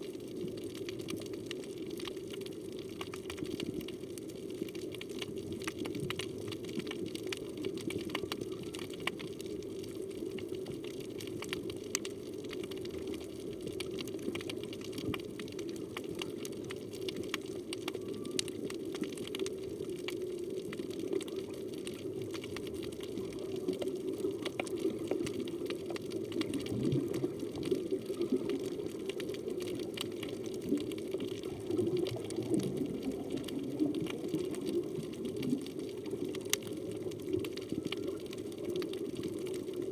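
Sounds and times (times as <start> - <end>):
underwater rush of moving water: 0.0 - 39.9
fine crackling clicks: 0.2 - 39.9.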